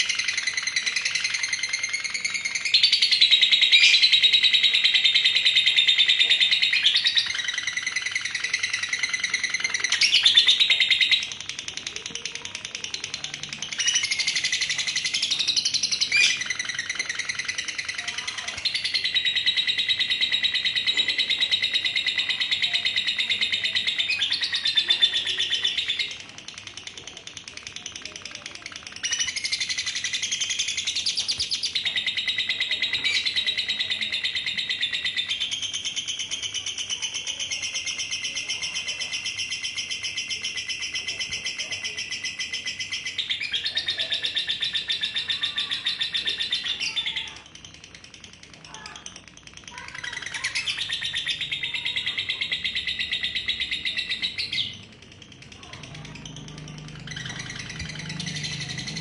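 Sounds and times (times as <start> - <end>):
bird chattering trill: 0.0 - 59.0.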